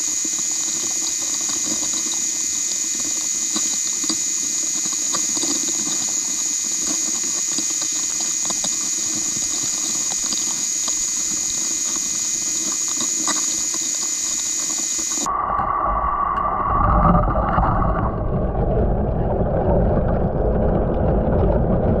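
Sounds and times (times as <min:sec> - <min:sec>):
small underwater clicks and crackles: 0:00.0 - 0:15.3, 0:16.4 - 0:22.0.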